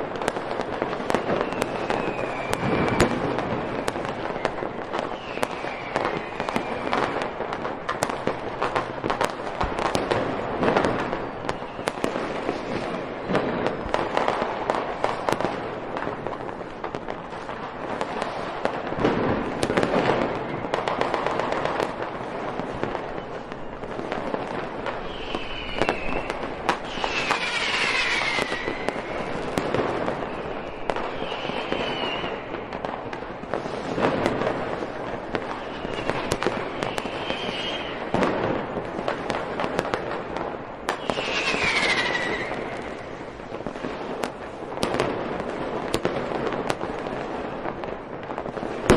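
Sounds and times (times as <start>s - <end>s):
whistling rockets: 0.0s - 47.3s
fireworks bangs: 0.0s - 48.9s
fireworks crackling and popping: 0.0s - 48.9s.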